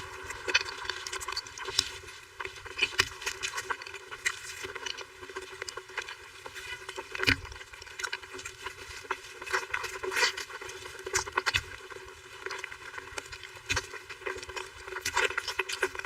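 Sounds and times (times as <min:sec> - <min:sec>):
chewing and mouth sounds: 0:00.0 - 0:16.0.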